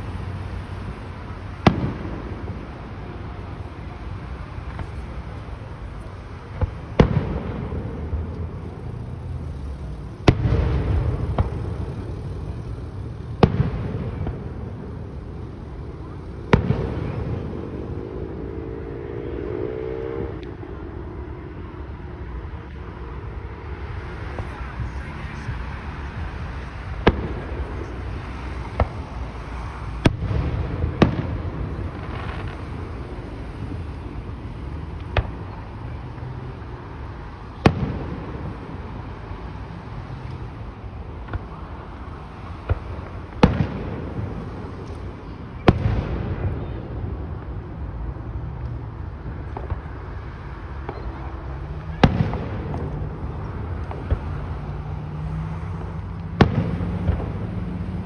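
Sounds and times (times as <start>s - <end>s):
fireworks bangs: 0.0s - 36.0s, 36.9s - 58.0s.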